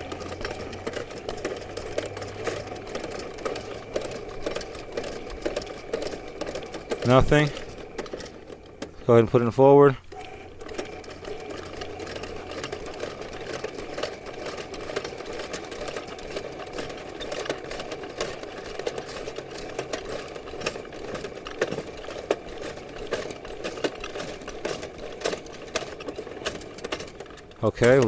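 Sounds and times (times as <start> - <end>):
cable clicks and rattles: 0.0 - 28.0
drain snake motor humming: 0.0 - 28.0.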